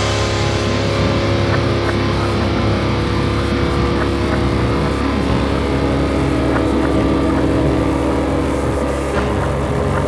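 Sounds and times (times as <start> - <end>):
distorted metal guitars droning: 0.0 - 10.0.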